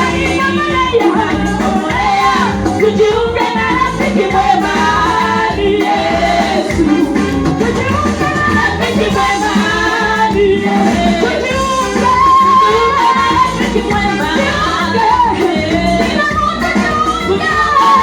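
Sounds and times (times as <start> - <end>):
choir singing gospel: 0.0 - 18.0
keyboard accompaniment: 0.0 - 18.0.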